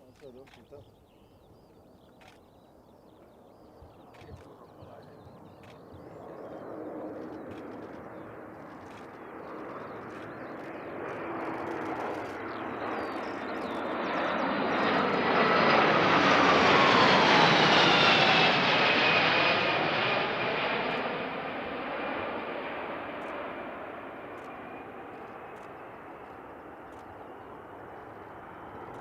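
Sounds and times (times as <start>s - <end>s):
jet aircraft flying past: 1.5s - 29.0s.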